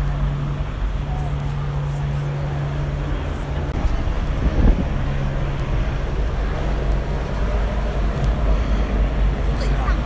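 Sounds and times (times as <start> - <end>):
vehicle engine drone: 0.0 - 10.0.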